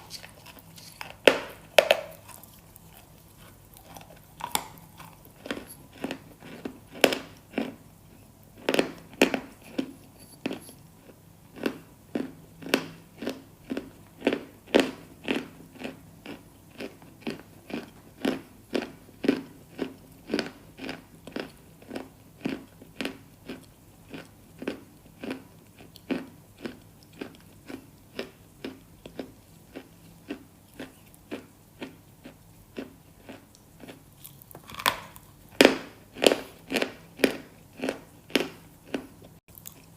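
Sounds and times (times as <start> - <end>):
crunching of brittle food chewed: 0.0 - 39.9.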